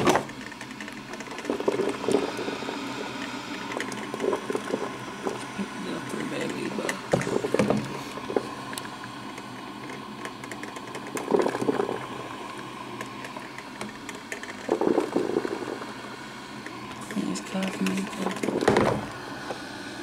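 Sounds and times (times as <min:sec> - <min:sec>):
coffee maker gurgling: 0:00.0 - 0:20.0
coffee maker hissing: 0:00.0 - 0:20.0.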